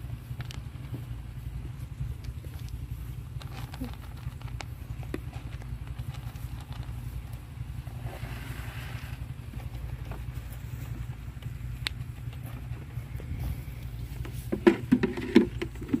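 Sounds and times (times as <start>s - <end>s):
soft rustle: 0.0s - 14.7s.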